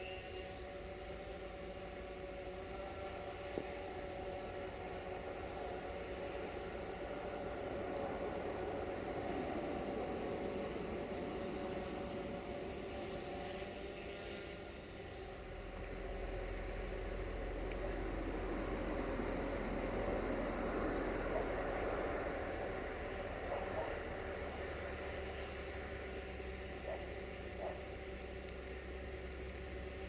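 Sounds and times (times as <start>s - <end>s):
engine drone: 0.0s - 30.0s
faint high whine: 0.0s - 30.0s.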